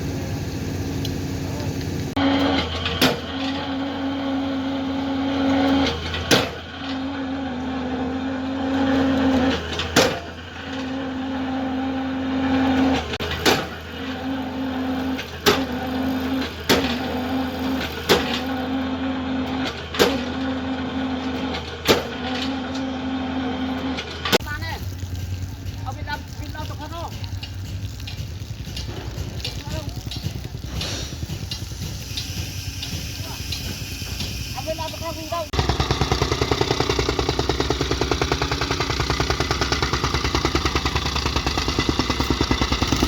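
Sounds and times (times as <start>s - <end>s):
excavator engine drone: 0.0s - 26.1s, 27.2s - 43.0s
hydraulic whine: 0.0s - 43.0s.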